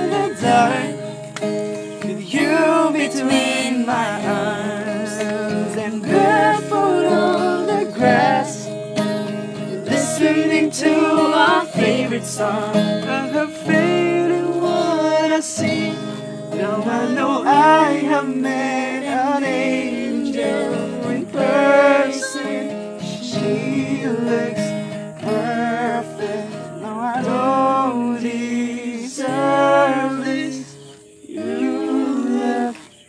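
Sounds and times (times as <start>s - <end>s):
person singing: 0.0s - 8.8s, 9.5s - 32.9s
acoustic guitar chords: 0.0s - 33.0s.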